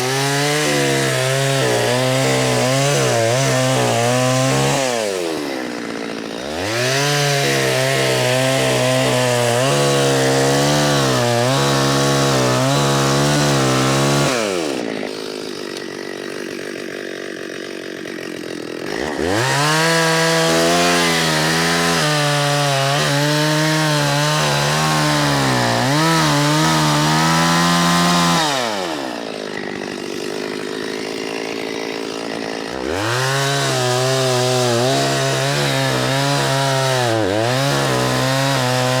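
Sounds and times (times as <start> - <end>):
chainsaw cutting log: 0.0 - 39.0.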